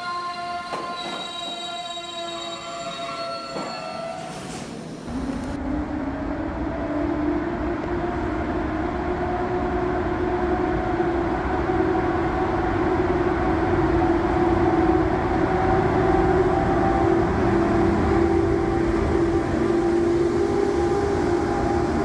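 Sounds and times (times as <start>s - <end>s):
electric locomotive hum: 0.0s - 22.0s
passing freight train: 0.0s - 22.0s.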